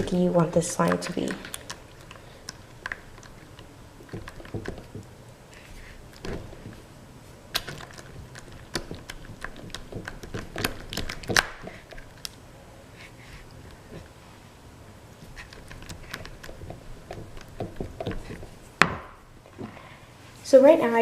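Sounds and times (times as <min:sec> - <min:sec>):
spatula stirring slime: 0:00.0 - 0:14.2, 0:15.2 - 0:18.8.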